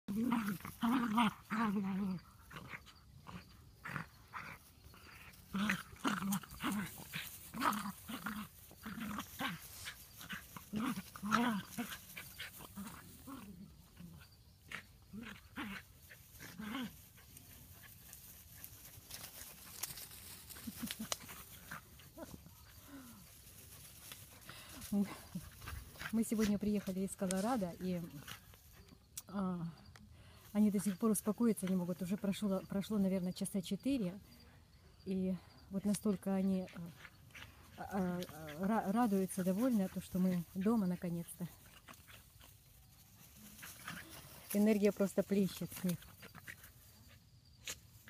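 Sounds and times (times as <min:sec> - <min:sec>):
small dogs growling and barking: 0:00.1 - 0:29.0, 0:36.2 - 0:48.0.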